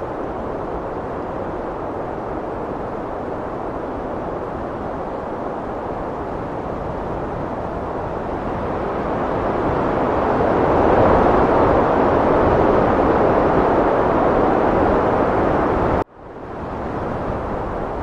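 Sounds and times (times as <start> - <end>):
heavy wind blowing: 0.0 - 18.0.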